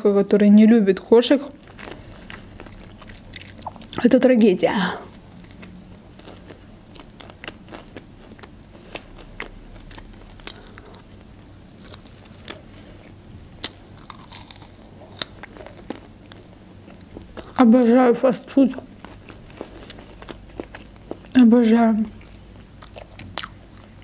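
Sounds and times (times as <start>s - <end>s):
chewing crunchy food: 1.6s - 4.1s, 5.1s - 17.8s, 18.4s - 21.4s, 22.0s - 24.0s.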